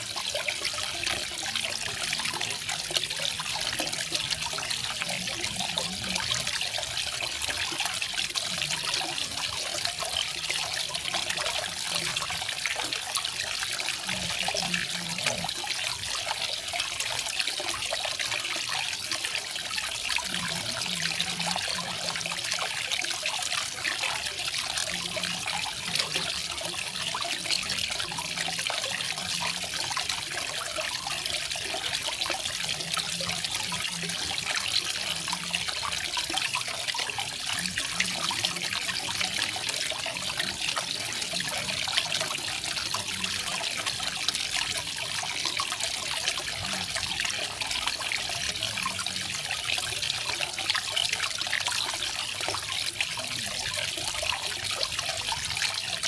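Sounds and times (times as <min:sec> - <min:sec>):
small waterfall splashing: 0:00.0 - 0:56.0.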